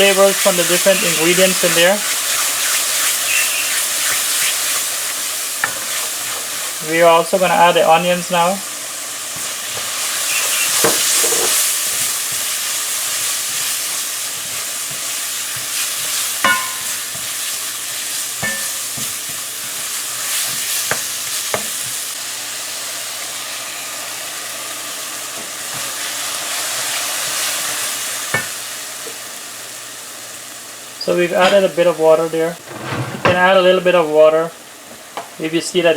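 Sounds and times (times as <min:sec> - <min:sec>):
food sizzling in oil: 0:00.0 - 0:35.9.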